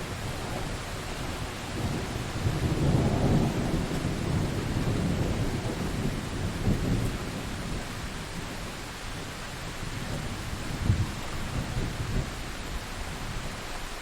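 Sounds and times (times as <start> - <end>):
low rumble of thunder: 0.0 - 13.7
steady rain: 0.0 - 14.0.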